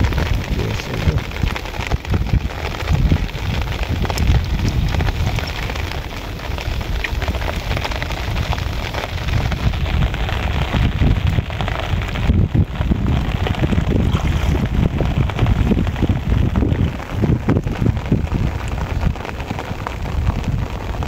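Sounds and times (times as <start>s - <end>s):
low rumble: 0.0s - 20.8s
heavy rain on floodwater: 0.0s - 21.0s.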